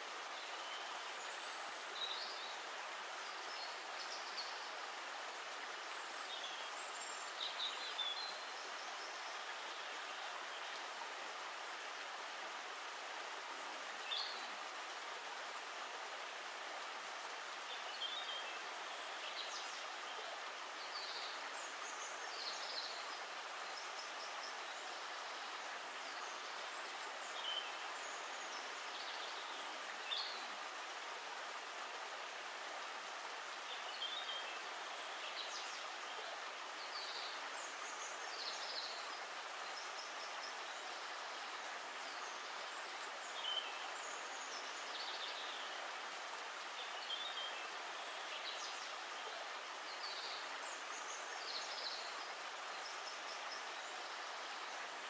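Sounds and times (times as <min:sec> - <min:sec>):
river flowing over stones: 0:00.0 - 0:55.0.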